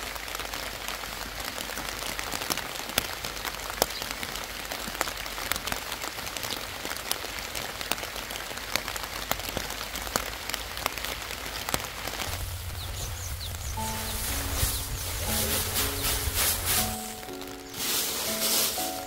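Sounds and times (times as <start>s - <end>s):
rain on leaves: 0.0s - 19.0s.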